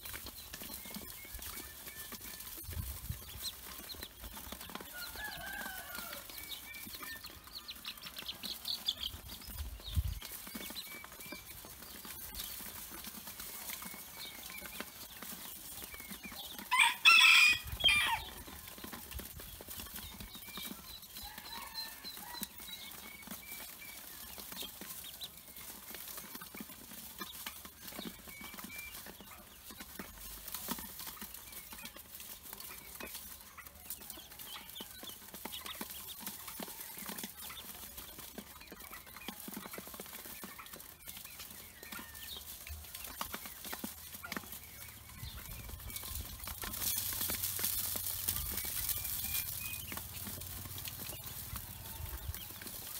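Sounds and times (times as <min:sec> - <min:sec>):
ducklings peeping: 0:00.0 - 0:52.9.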